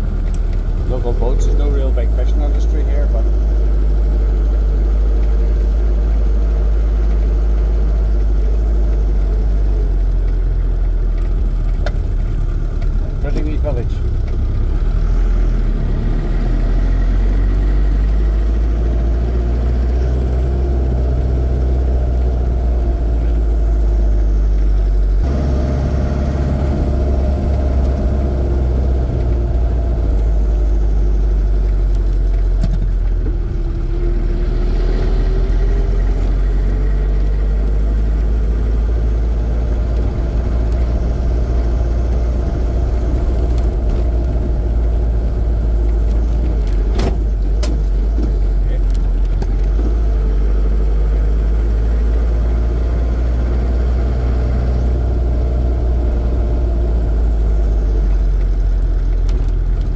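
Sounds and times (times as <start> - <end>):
engine and drivetrain drone: 0.0 - 59.9.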